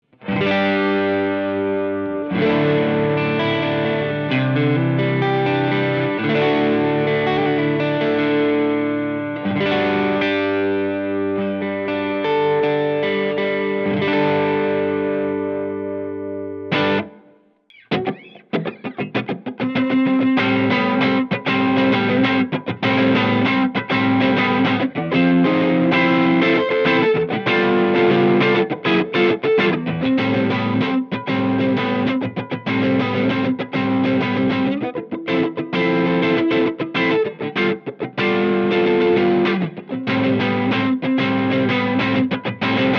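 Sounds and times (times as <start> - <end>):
overdriven electric guitar chords: 0.0 - 42.9.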